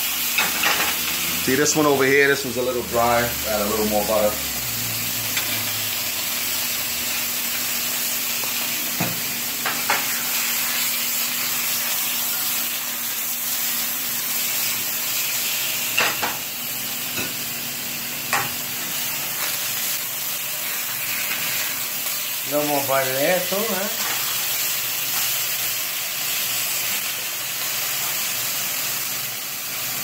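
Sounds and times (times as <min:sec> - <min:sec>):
steak sizzling in pan: 0:00.0 - 0:30.0.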